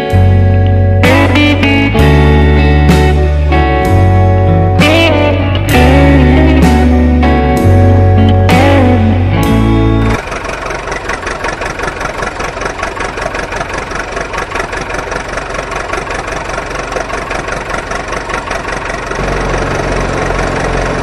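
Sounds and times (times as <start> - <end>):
low steady drone: 0.0 - 21.0
truck engine idling: 0.0 - 21.0.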